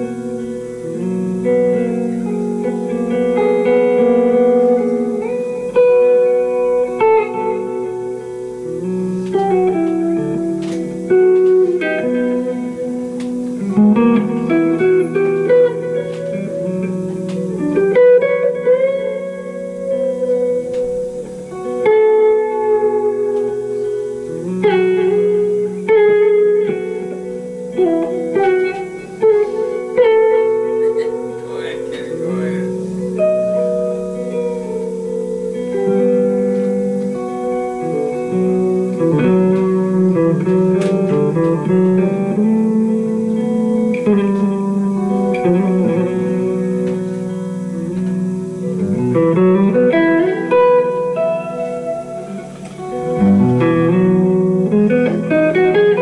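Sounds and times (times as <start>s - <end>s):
electric jazz guitar: 0.0s - 56.0s.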